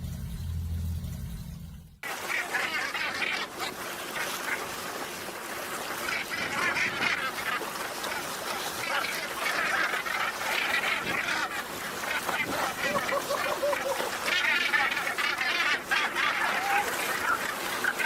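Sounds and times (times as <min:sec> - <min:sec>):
flock of waterfowl calling: 0:02.0 - 0:18.0.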